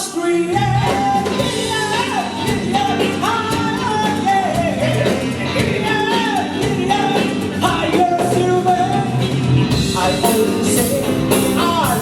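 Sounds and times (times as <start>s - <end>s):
drums: 0.0s - 12.0s
live soul band playing: 0.0s - 12.0s
person singing: 0.0s - 12.0s
bass guitar: 0.3s - 12.0s
melodic lead line: 0.5s - 12.0s.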